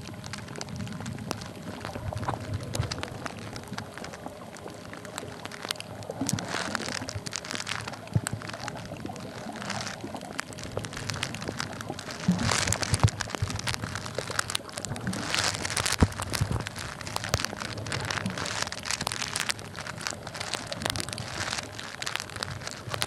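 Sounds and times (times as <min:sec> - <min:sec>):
underwater crackling and clicking: 0:00.0 - 0:23.0.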